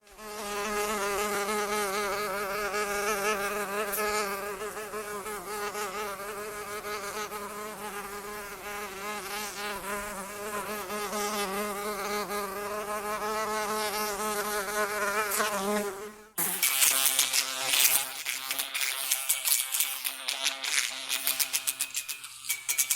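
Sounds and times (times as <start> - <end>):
housefly buzzing: 0.0 - 22.9.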